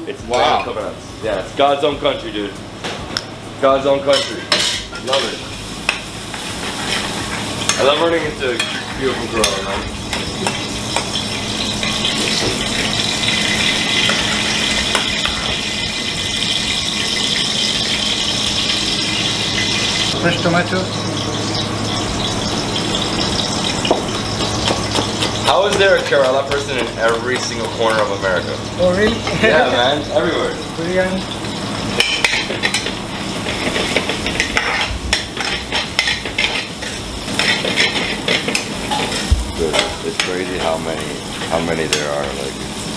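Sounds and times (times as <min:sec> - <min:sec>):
curry sizzling in a pan: 0:03.6 - 0:42.9.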